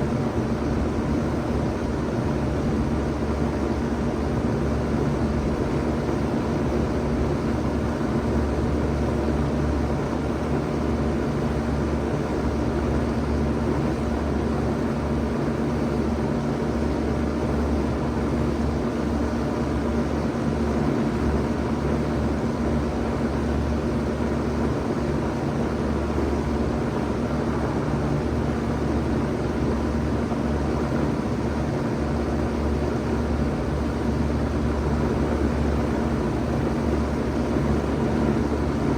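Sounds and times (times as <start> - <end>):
heat pump hum: 0.0 - 38.9.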